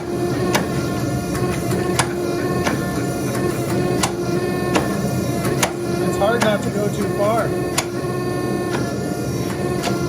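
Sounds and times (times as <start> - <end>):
forging press hum: 0.0 - 10.0.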